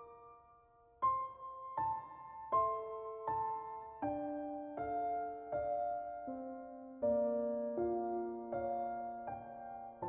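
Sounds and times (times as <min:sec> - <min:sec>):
slow piano notes: 0:00.0 - 0:10.0.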